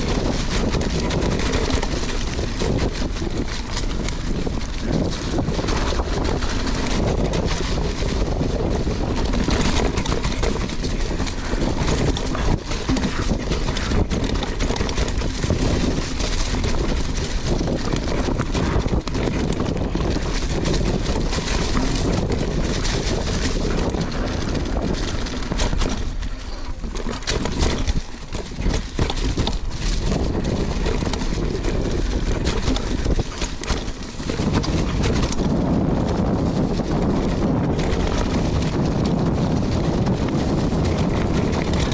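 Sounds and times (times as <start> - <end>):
bike frame and tyres clattering: 0.0 - 41.9
wind buffeting microphone: 0.0 - 41.9.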